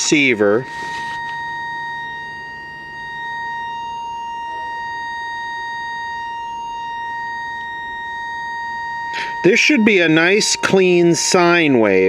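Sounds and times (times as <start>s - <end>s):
distorted steady test tone from radio: 0.0s - 12.0s.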